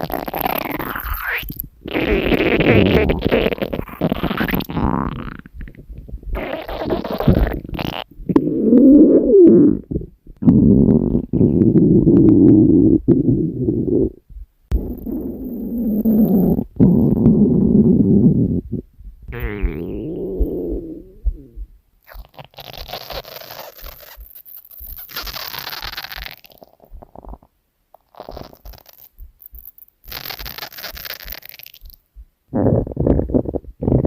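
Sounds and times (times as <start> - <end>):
stomach growling: 0.0 - 29.2, 30.1 - 34.0.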